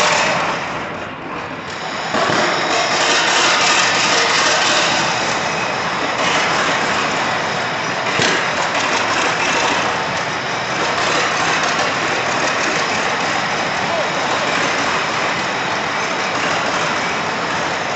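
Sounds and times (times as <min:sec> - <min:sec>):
tractor engine running: 0:00.0 - 0:17.9.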